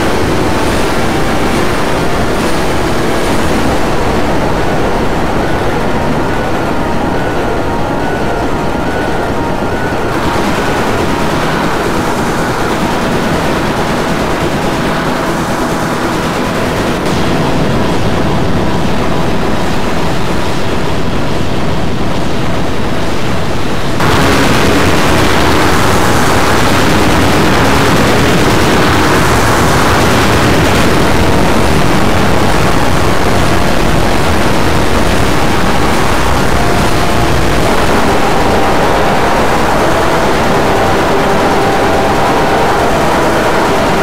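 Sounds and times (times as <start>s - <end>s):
distorted electronic loops: 0.0s - 19.8s, 24.0s - 44.0s
faint steady tones: 0.0s - 44.0s.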